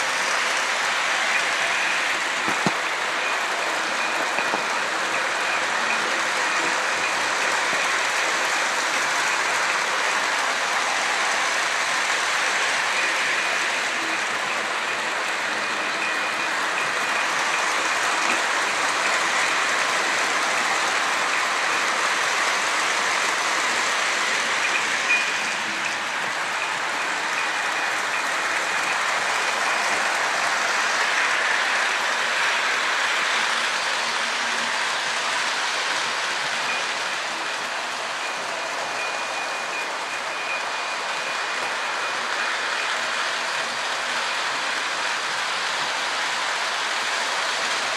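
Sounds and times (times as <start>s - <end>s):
model train motors whirring: 0.0s - 47.9s.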